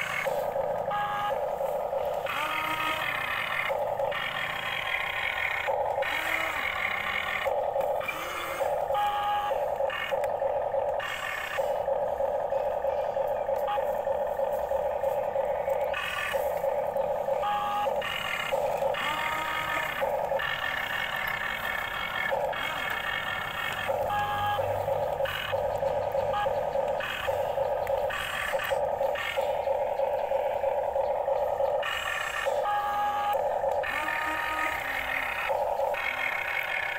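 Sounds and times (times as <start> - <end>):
high-pitched motor whine: 0.0 - 36.9
small electric motors whirring: 0.0 - 36.9.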